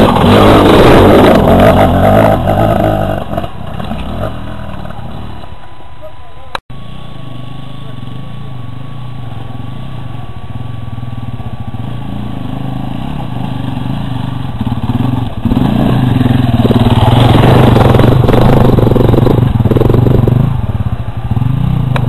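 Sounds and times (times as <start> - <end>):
dirt bike engines passing: 0.0 - 22.0.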